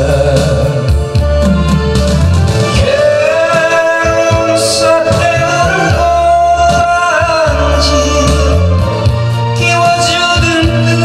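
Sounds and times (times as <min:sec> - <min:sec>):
man singing into microphone: 0:00.0 - 0:01.9, 0:02.6 - 0:11.0
instrumental accompaniment: 0:00.0 - 0:11.0.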